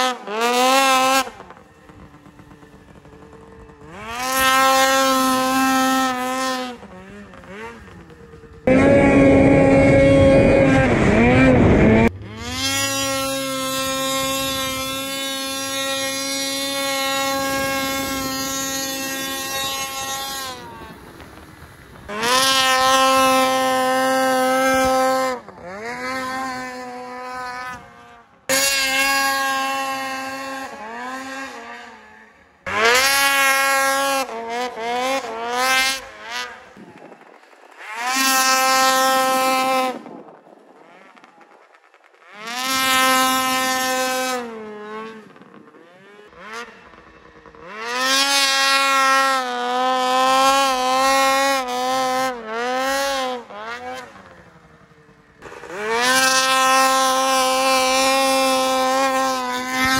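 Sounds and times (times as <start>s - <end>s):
snowmobile engine revving hard: 0.0s - 59.9s.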